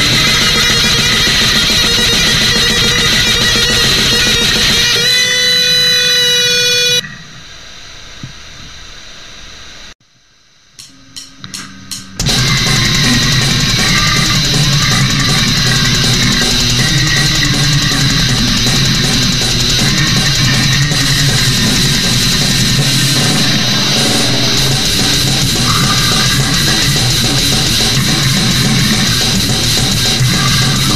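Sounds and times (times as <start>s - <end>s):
fast dense drumming: 0.0s - 6.4s, 11.9s - 30.9s
extreme metal music: 0.0s - 7.1s, 10.8s - 30.9s
heavily distorted guitars: 0.0s - 7.6s, 10.8s - 30.9s.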